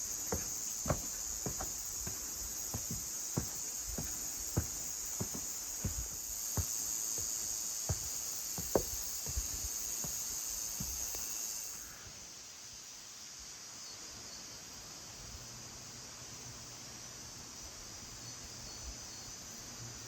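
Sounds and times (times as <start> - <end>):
faint steady hiss: 0.0 - 20.0
high-pitched insect chorus: 0.0 - 20.0.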